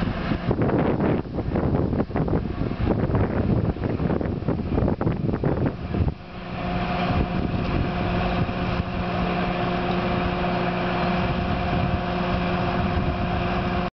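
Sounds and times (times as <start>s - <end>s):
crane engine idling: 0.0s - 13.9s.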